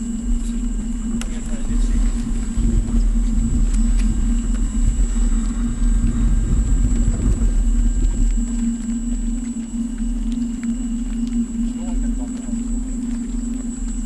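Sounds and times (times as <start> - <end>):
electric motor humming: 0.0 - 14.0
wind on microphone: 0.0 - 14.0.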